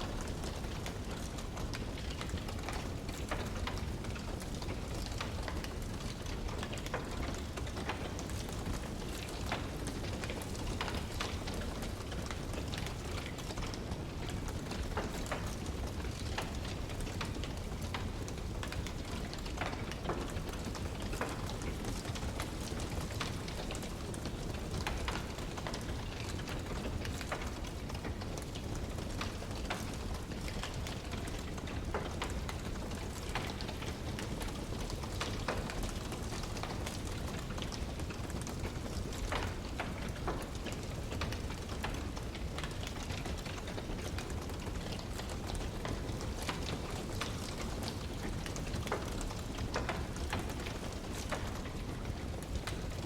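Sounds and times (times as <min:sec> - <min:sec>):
low fire rumble: 0:00.0 - 0:53.0
wood fire crackling: 0:00.0 - 0:53.0.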